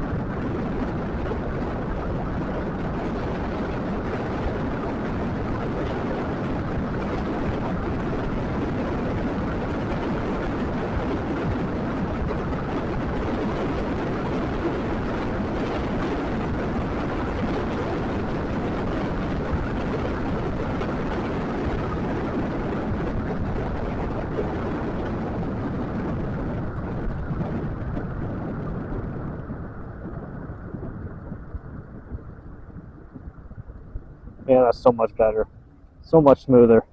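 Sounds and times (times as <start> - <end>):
wind on microphone: 0.0 - 36.9.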